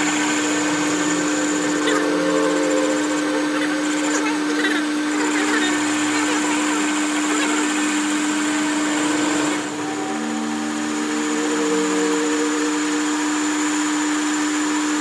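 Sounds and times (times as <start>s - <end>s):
electric machine motor whirring: 0.0s - 15.0s.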